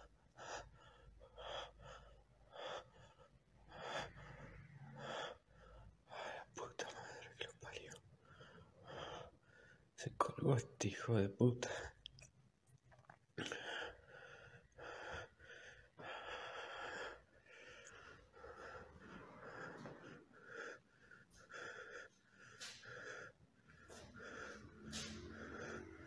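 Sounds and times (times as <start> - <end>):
man breathing heavily: 0.0 - 10.0, 13.4 - 26.0.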